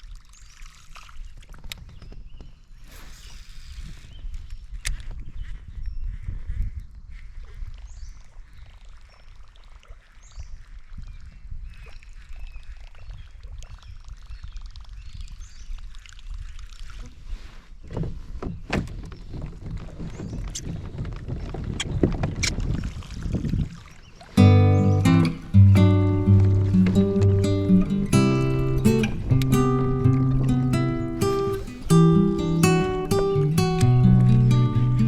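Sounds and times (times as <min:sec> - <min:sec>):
water lapping around a kayak: 0:00.0 - 0:35.0.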